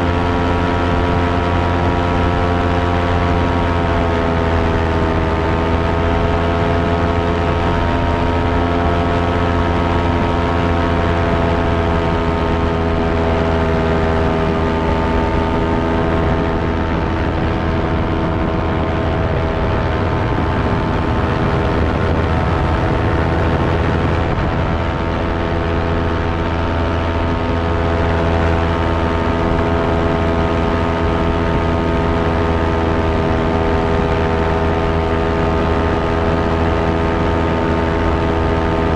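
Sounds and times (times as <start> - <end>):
electric fan whirring: 0.0 - 38.9.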